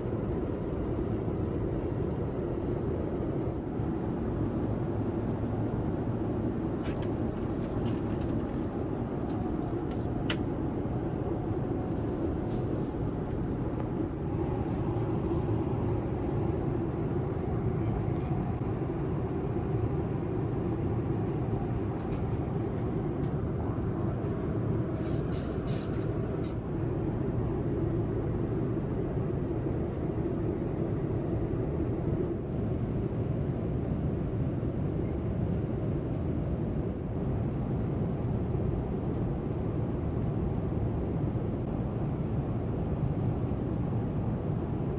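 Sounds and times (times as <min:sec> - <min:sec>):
airliner cabin engine rush: 0:00.0 - 0:44.9.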